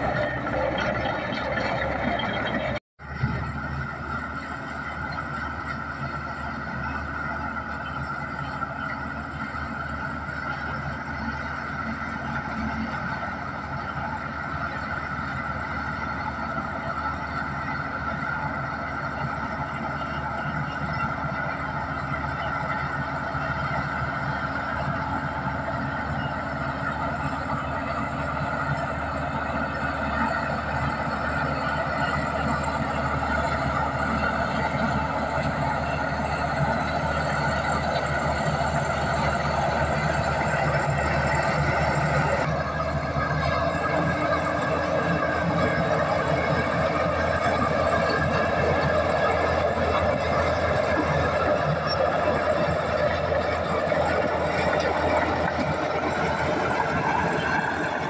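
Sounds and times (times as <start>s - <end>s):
bulldozer diesel engine under load: 0.0s - 58.0s
bulldozer tracks: 0.0s - 58.0s.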